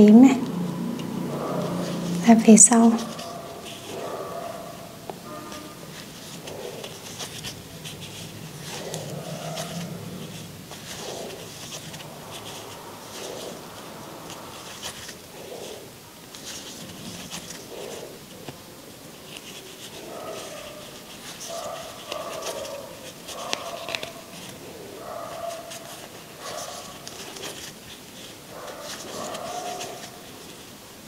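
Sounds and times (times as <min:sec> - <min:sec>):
yarn rustling: 0:00.0 - 0:31.0.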